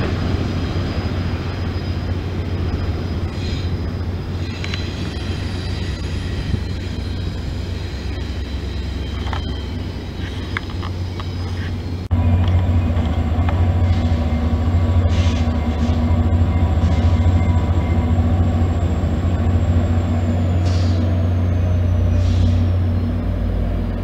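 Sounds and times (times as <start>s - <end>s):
diesel locomotive hum: 0.0s - 24.0s.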